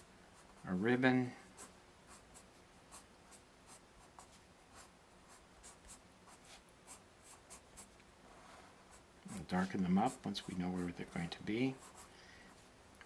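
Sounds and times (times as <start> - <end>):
pencil sketching on paper: 1.5 - 12.1.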